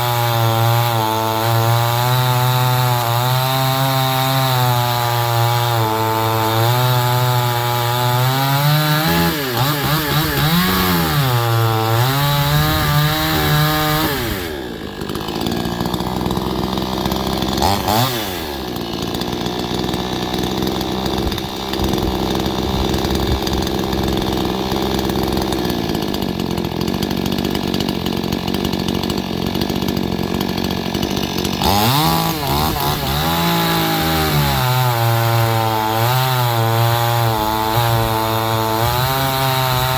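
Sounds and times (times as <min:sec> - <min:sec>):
chainsaw cutting at full throttle: 0:00.0 - 0:39.9.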